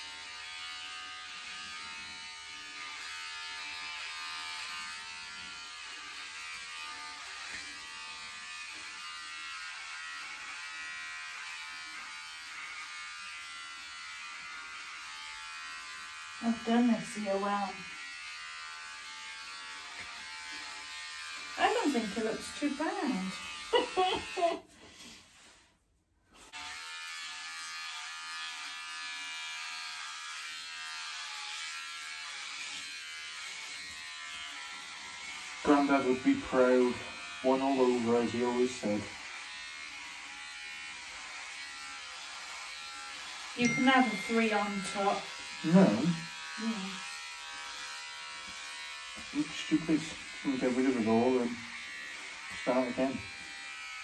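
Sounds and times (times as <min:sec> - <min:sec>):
electric hair clippers buzzing: 0:00.0 - 0:24.6, 0:26.4 - 0:54.0.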